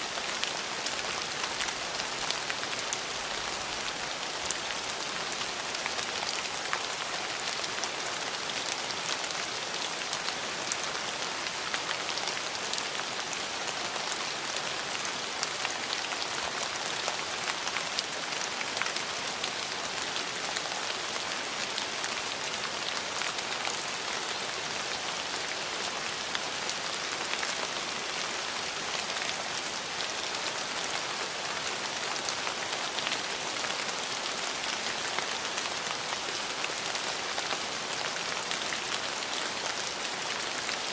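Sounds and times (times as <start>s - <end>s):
rain on hard surfaces: 0.0s - 40.9s.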